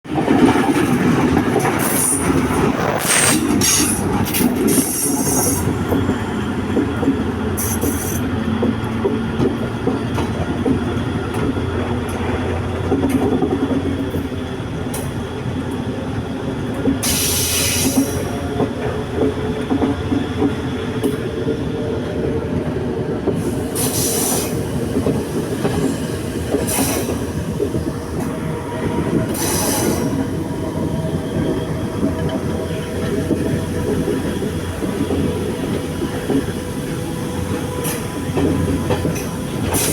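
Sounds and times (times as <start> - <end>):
train rumbling on rails: 0.0 - 39.9
wheels screeching against rails: 0.5 - 12.2, 16.9 - 21.7, 23.3 - 39.9.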